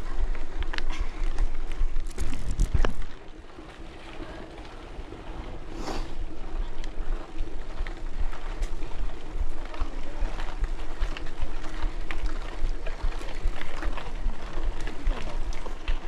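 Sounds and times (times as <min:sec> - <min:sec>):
bike tyres rolling on trail: 0:00.0 - 0:16.0.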